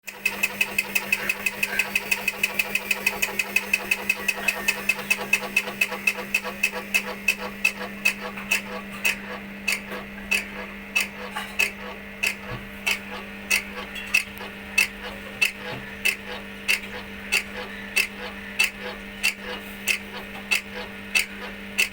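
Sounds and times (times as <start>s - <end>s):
washing machine hum: 0.0s - 21.9s.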